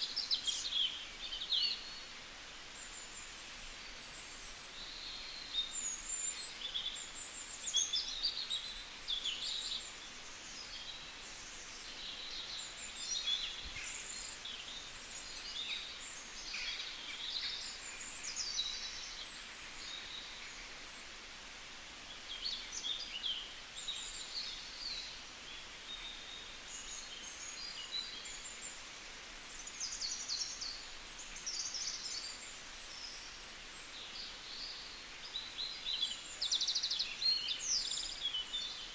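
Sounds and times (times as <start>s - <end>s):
small birds chirping and singing: 0.0s - 21.3s, 21.9s - 38.9s
faint steady hiss: 0.0s - 38.9s.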